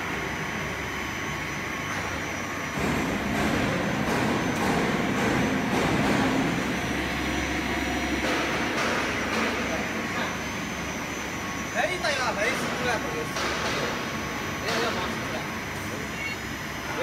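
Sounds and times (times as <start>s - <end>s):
disperser mechanical drone: 0.0s - 17.0s.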